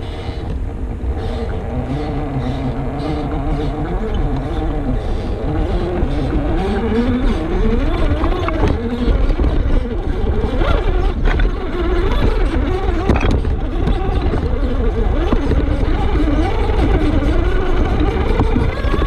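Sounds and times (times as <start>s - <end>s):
heavy low rumble: 0.0s - 19.0s
small electric motor whining: 0.0s - 19.0s.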